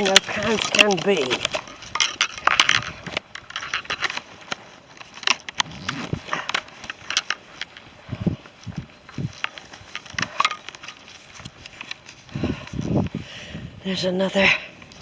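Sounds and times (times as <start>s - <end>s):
footsteps on wet path: 0.0s - 13.5s
rustling and handling noise: 0.0s - 15.0s.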